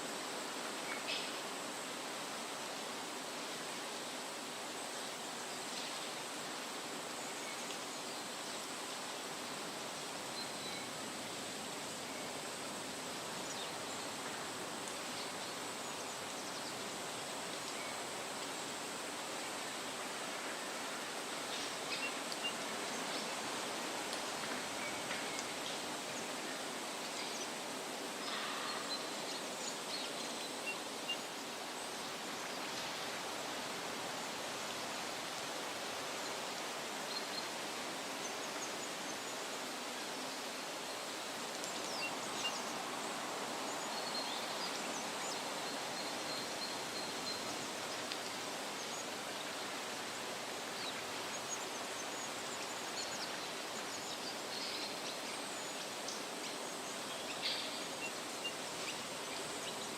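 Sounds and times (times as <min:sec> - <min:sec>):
wind rustling tree leaves: 0:00.0 - 0:59.9.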